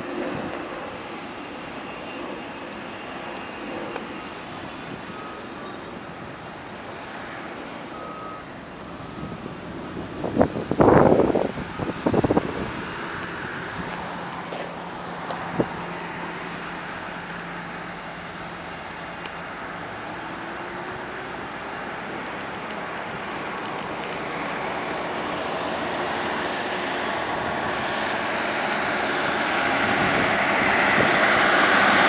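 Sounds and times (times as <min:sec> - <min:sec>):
cars passing: 0:00.0 - 0:32.0
distant aircraft engines: 0:00.0 - 0:32.0.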